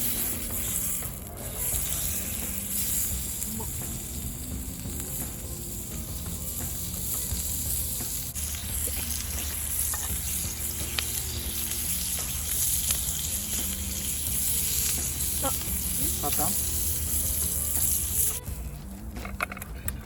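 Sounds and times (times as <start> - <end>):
food sizzling over a campfire: 0.0 - 19.7.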